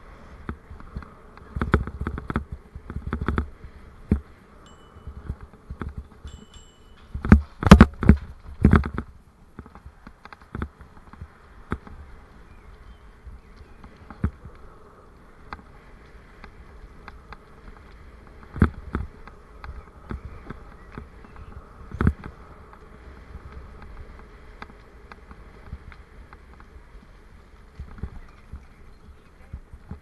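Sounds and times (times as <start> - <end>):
bicycle rolling rumble: 0.0 - 30.0.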